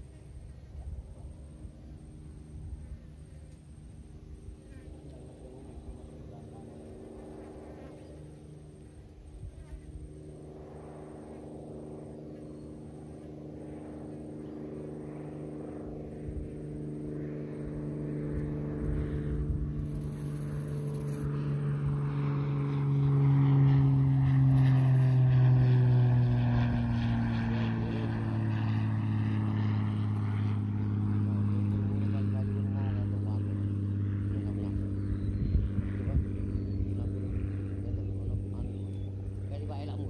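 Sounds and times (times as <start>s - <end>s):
aircraft engine drone: 0.0s - 40.0s.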